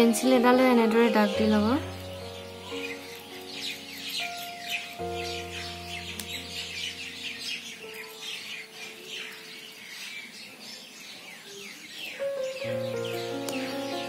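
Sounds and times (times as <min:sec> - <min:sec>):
background music notes: 0:00.0 - 0:10.0, 0:12.0 - 0:14.0
birds chirping: 0:00.0 - 0:14.0.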